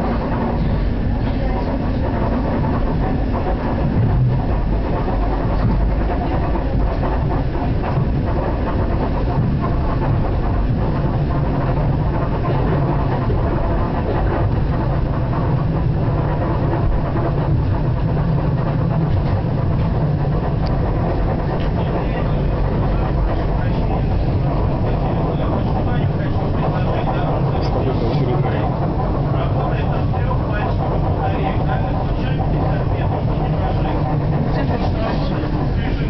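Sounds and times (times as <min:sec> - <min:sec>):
train carriage body noise: 0:00.0 - 0:36.0
train wheels on rails: 0:00.0 - 0:36.0.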